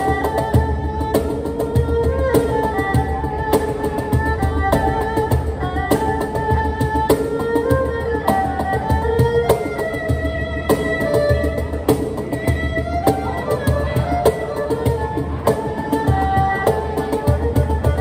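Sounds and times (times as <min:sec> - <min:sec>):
cajon bass thumps and slaps: 0:00.0 - 0:18.0
erhu bowed melody: 0:00.0 - 0:18.0.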